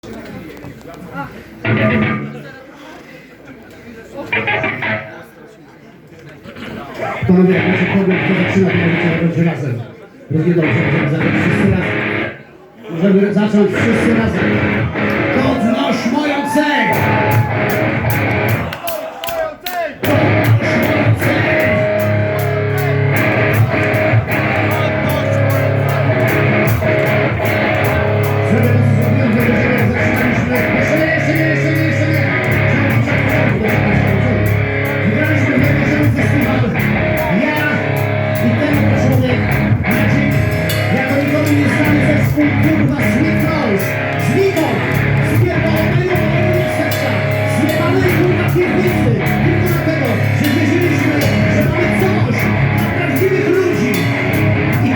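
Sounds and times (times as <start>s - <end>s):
live metal band playing: 1.6s - 2.4s, 4.3s - 5.2s, 7.4s - 9.4s, 10.6s - 12.4s, 13.7s - 18.7s, 20.0s - 54.9s.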